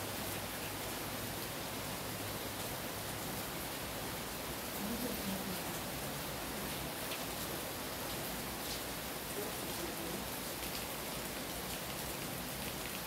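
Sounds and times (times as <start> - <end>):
rain falling steadily: 0.0 - 13.0.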